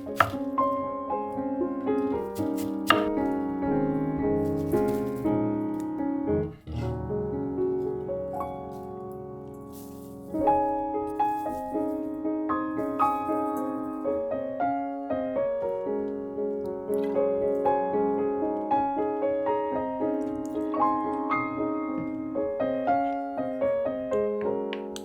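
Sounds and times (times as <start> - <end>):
gentle piano melody: 0.0 - 25.0.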